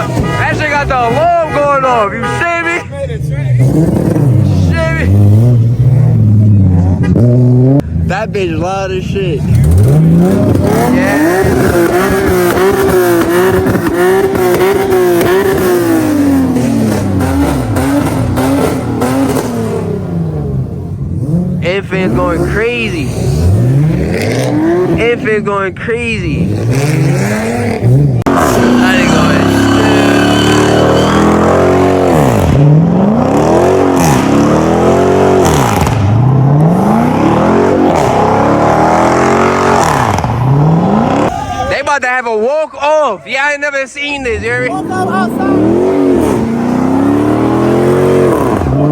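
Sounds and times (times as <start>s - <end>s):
car engine revving: 0.0s - 41.4s, 44.2s - 48.9s.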